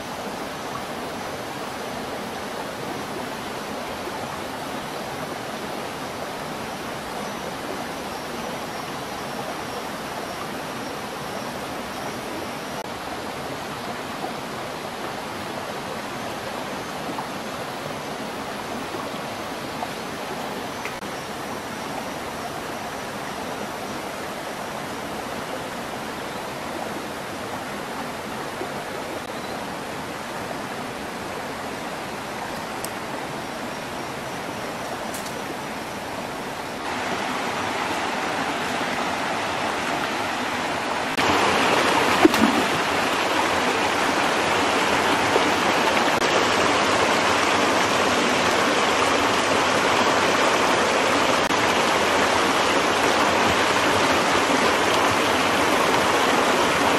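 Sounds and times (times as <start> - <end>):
stream running over stones: 0.0 - 56.9.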